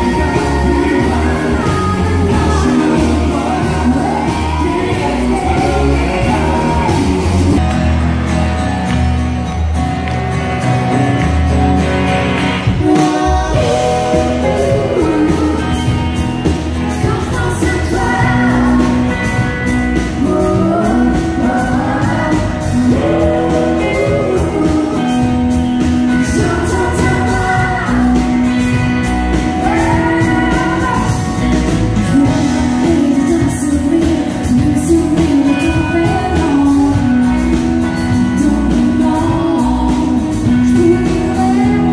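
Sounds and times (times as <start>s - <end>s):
person singing: 0.0s - 7.6s, 12.6s - 41.9s
country band playing: 0.0s - 41.9s.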